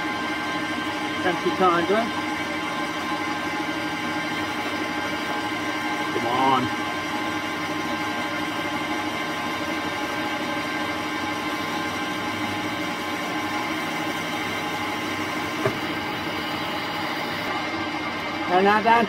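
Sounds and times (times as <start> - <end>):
metal lathe humming: 0.0 - 19.0.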